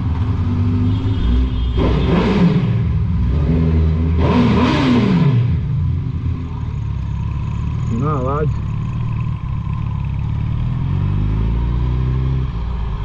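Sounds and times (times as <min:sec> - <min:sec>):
motorcycle engine revving: 0:00.0 - 0:13.0
road rumble: 0:00.0 - 0:13.0.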